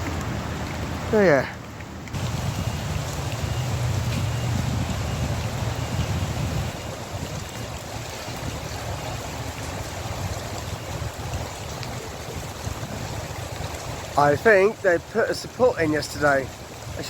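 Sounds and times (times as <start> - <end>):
rain hissing: 0.0 - 17.0
wind rumbling on microphone: 0.0 - 17.0.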